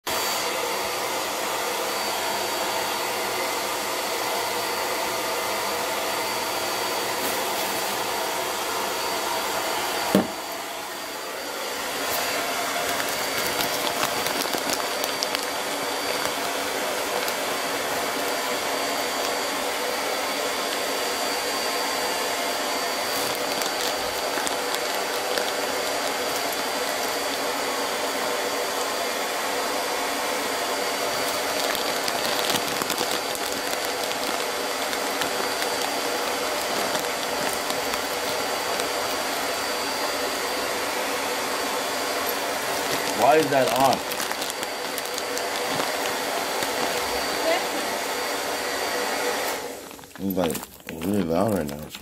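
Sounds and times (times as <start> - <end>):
appliance motor whirring: 9.5 - 51.2.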